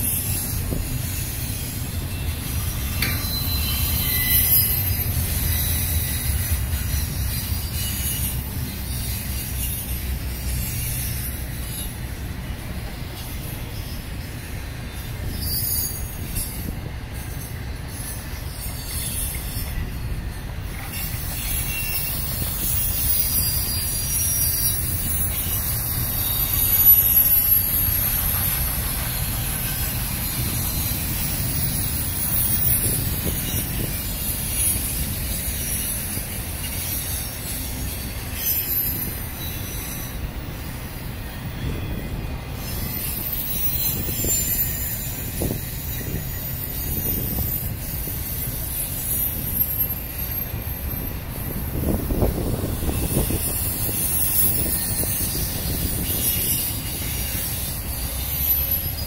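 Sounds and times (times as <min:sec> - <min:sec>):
freight cars rumbling on rails: 0:00.0 - 0:59.0
high-pitched wheel squeal: 0:00.0 - 0:59.0.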